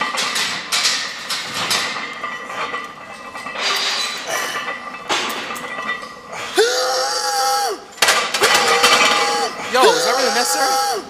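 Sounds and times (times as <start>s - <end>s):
metal weights clanking: 0.0s - 7.2s, 7.9s - 10.7s.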